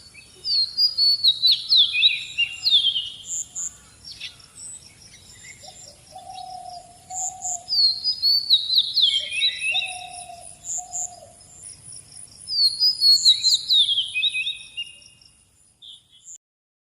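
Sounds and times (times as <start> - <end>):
songbird cascading song: 0.0 - 16.4.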